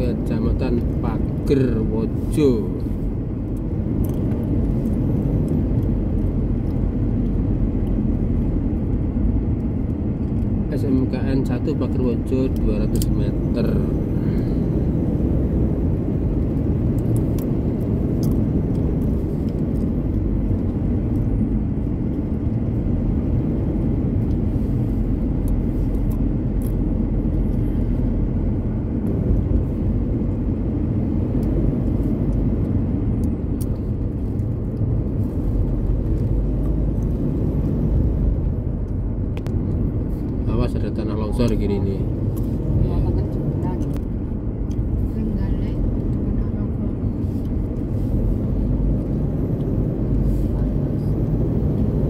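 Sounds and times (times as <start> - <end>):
car engine and tyre rumble: 0.0 - 52.0.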